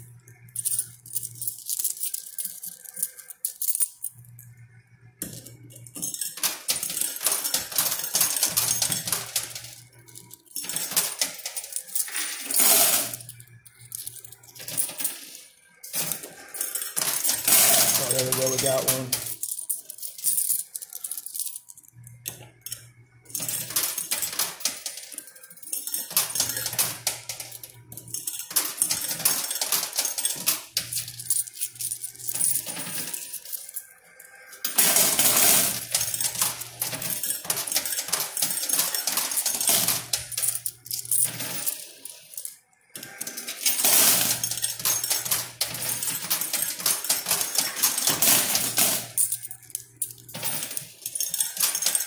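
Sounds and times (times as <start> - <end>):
coins clinking and clattering: 0.0 - 52.0.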